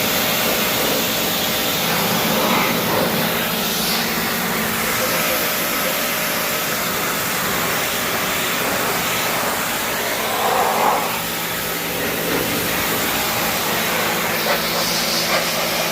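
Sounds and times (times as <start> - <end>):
pressure washer motor humming: 0.0 - 15.9
water jet hissing: 0.0 - 15.9.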